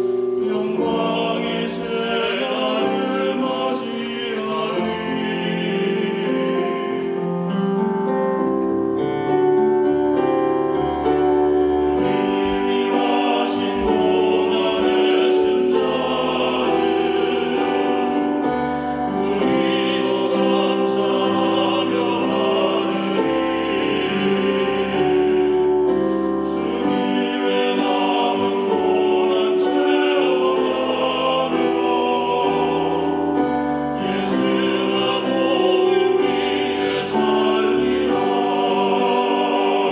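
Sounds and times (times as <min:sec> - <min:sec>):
voices singing gospel song: 0:00.0 - 0:07.8, 0:10.8 - 0:39.9
instrumental accompaniment: 0:00.0 - 0:39.9.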